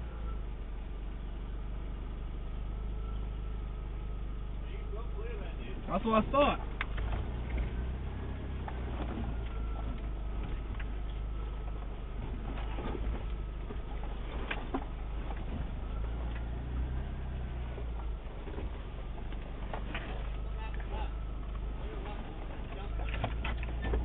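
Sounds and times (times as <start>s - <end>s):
vehicle engine running inside cab: 0.0s - 24.0s.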